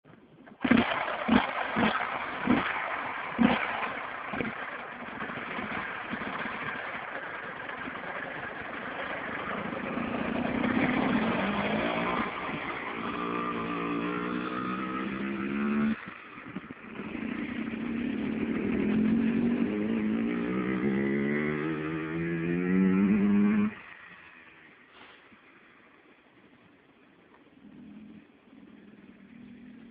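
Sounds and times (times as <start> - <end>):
dirt bike engine revving: 0.6 - 24.8.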